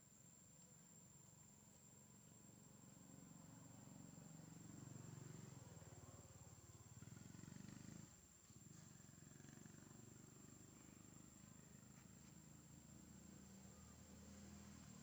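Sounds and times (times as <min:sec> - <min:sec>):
faint high-pitched whine: 0:00.0 - 0:15.0
faint low hum: 0:00.0 - 0:15.0.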